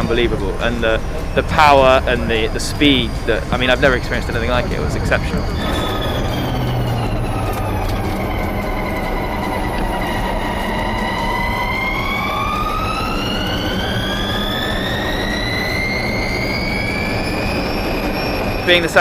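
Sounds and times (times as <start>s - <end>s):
electric car motors whining: 0.0s - 19.0s
road and wind noise: 0.0s - 19.0s.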